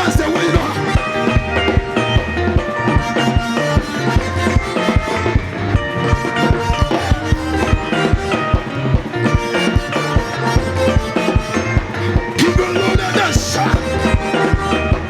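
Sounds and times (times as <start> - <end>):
keyboard chords: 0.0 - 15.0
steady drum beat: 0.0 - 15.0.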